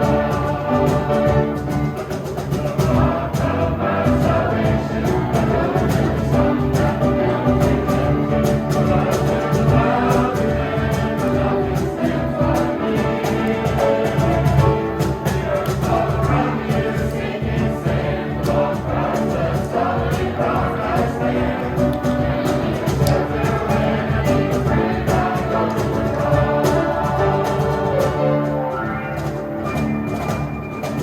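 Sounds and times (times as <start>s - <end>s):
choir singing gospel music: 0.0s - 31.0s.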